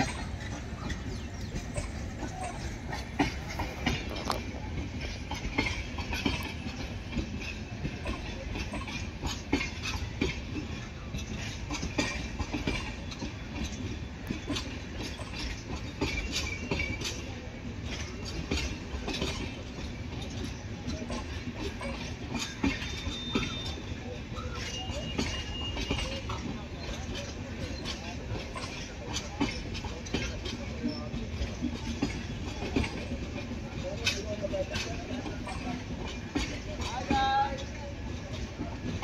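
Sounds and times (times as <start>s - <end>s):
wheels clanking over rail joints: 0.0s - 39.0s
wheels rumbling on rail: 0.0s - 39.0s.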